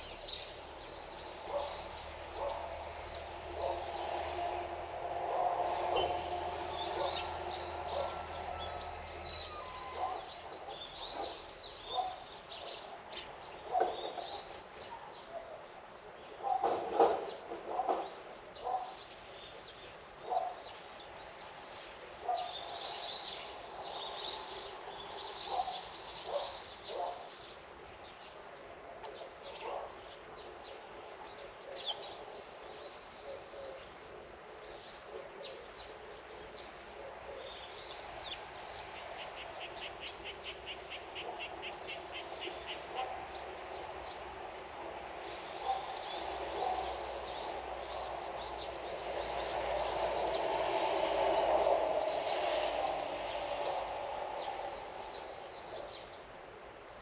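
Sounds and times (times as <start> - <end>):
birds chirping: 0.0 - 4.5, 5.2 - 57.0.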